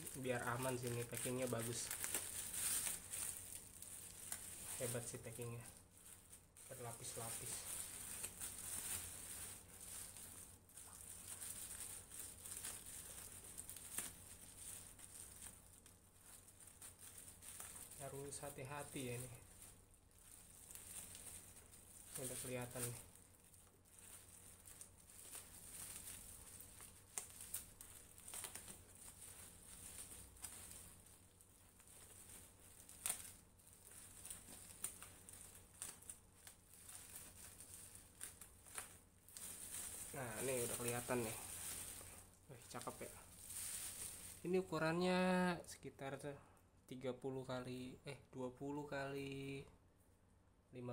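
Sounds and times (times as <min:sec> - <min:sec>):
bubble wrap crinkling: 0:00.0 - 0:46.2.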